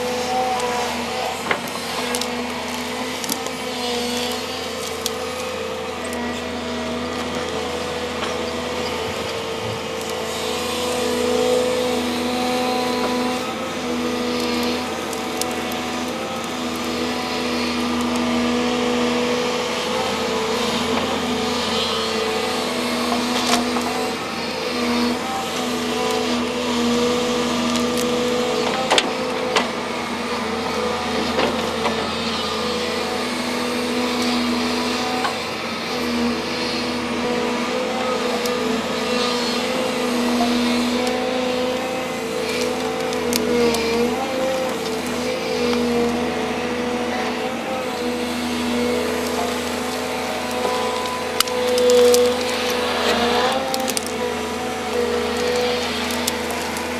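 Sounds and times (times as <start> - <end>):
excavator running under load: 0.0 - 56.9
roots and wood snapping: 0.0 - 56.9.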